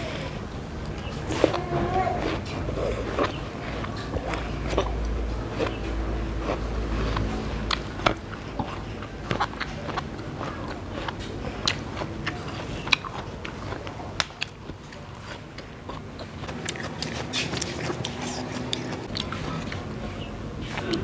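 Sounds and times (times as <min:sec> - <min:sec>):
crunchy biting and chewing: 0:00.0 - 0:21.0.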